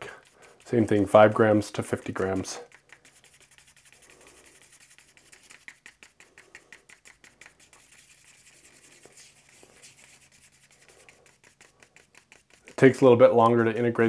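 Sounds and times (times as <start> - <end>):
stir stick scraping cup: 0.0 - 13.1.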